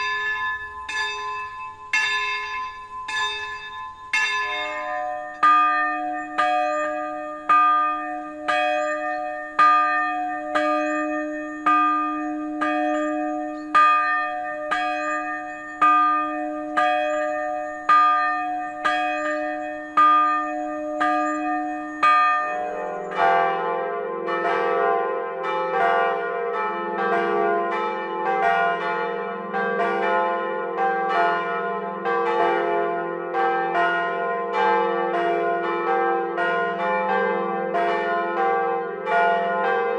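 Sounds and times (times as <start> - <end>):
peal of church bells: 0.0 - 39.9
single church bell striking: 0.0 - 39.9.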